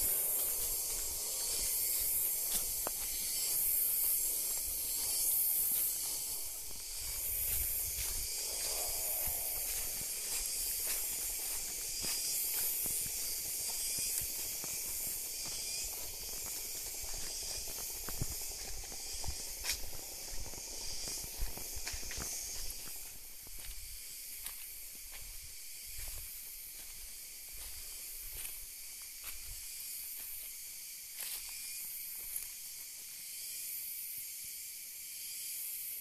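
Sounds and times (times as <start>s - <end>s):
high-pitched hiss: 0.0s - 36.0s.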